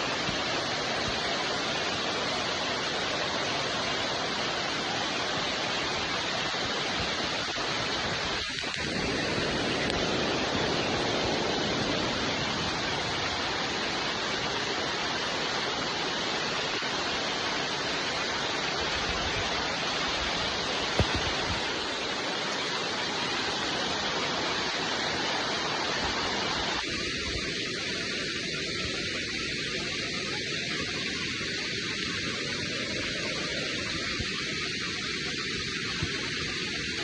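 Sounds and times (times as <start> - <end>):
rain hissing: 0.0 - 37.0.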